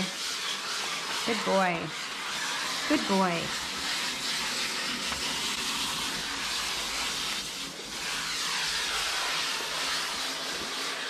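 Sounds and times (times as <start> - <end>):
water spraying from hose nozzle: 0.0 - 11.0.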